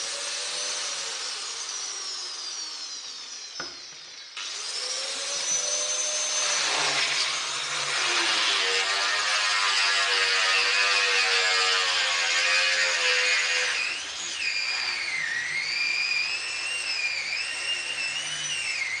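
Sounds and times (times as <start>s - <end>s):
power drill drilling into stone: 0.0s - 19.0s.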